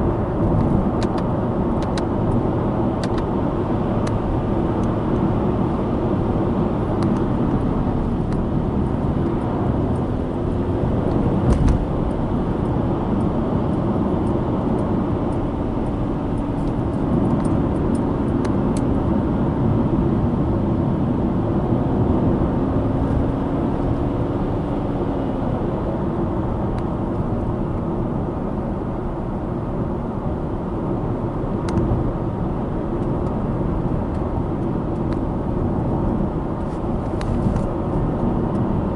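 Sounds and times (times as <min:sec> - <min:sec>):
car engine and tyre road rumble: 0:00.0 - 0:38.9.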